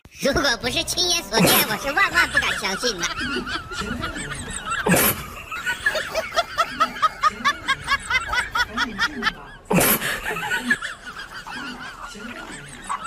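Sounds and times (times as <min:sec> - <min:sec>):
high-pitched snickering laughter: 0:01.4 - 0:13.0.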